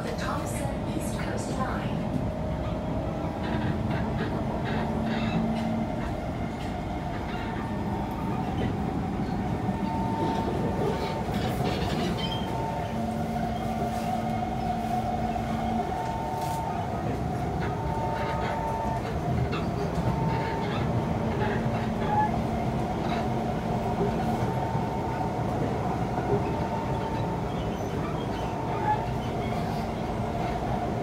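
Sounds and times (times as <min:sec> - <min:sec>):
train wheels rumbling on rails: 0:00.0 - 0:31.0
train motor tones: 0:03.0 - 0:31.0.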